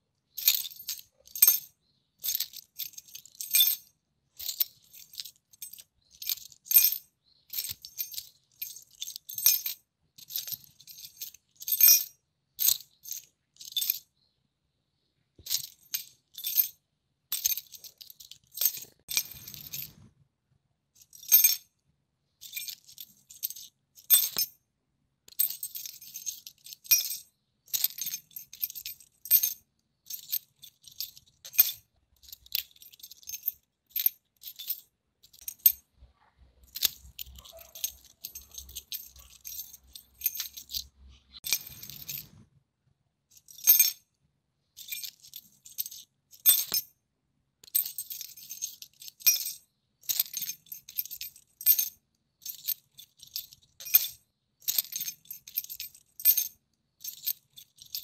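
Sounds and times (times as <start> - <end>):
metal keys jangling: 0.4 - 14.1, 17.4 - 20.1, 22.4 - 24.6, 25.3 - 35.9, 36.6 - 42.4, 44.8 - 46.9, 47.6 - 58.0.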